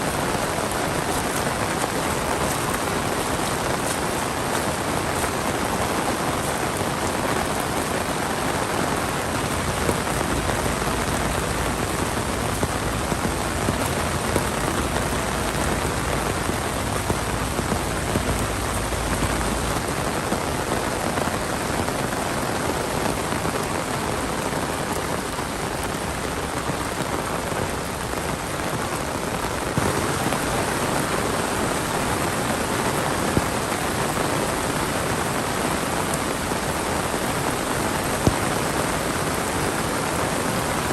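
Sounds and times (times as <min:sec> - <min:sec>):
heavy rain falling: 0:00.0 - 0:40.9
raindrop splashes: 0:00.0 - 0:40.9.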